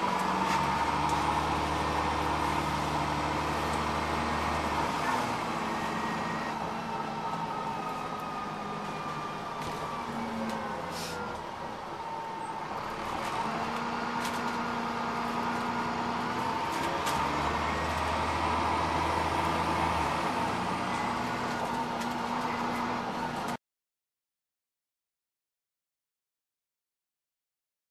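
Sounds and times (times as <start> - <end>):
bus engine running: 0.0 - 23.6.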